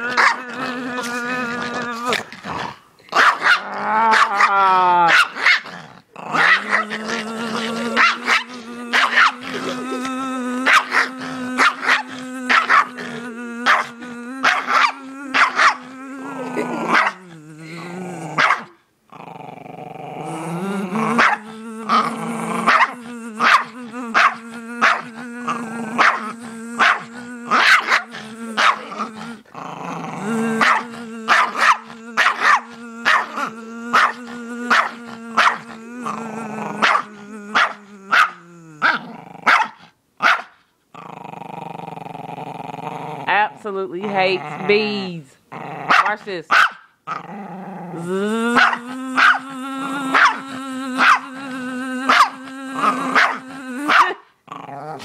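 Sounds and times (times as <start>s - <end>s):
small dog barking and growling: 0.0s - 18.8s, 20.3s - 55.0s.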